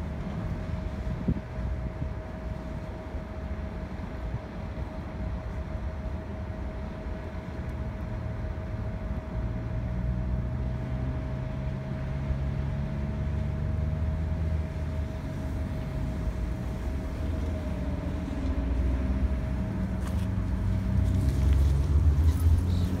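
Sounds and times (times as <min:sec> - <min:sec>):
bus engine rumble: 0:00.0 - 0:23.0
steady whine: 0:00.0 - 0:23.0.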